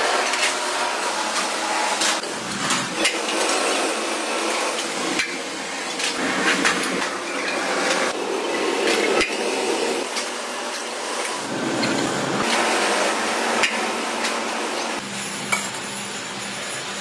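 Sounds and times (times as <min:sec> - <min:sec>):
press machinery running: 0:00.0 - 0:17.0.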